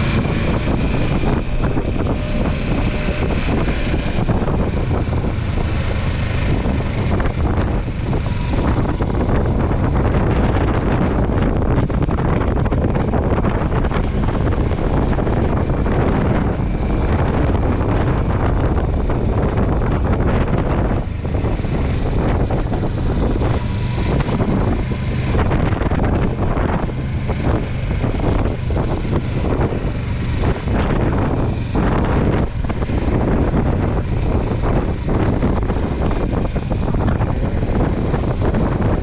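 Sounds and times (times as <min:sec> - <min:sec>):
strong wind on microphone: 0:00.0 - 0:39.0.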